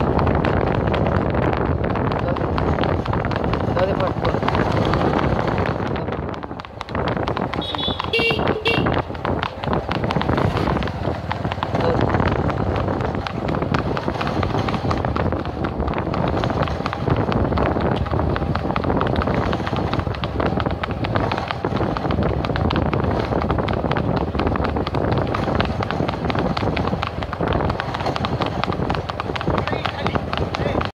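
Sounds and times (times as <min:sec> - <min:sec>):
horse hooves on paved road: 0:00.0 - 0:30.9
motor vehicle running: 0:00.0 - 0:30.9
wind on microphone: 0:00.0 - 0:30.9.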